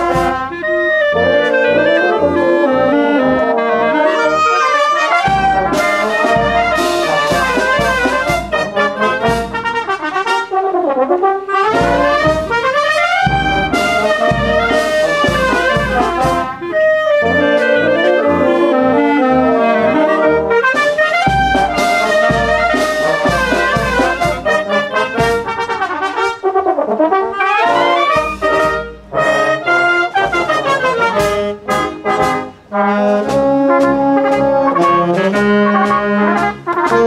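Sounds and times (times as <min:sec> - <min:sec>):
brass band playing a march: 0:00.0 - 0:37.0
tuba bass: 0:00.0 - 0:37.0.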